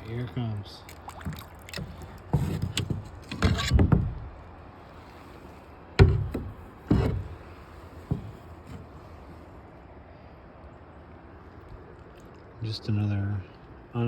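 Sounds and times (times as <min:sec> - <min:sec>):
water splashing and sloshing: 0:00.0 - 0:09.9, 0:11.2 - 0:12.6.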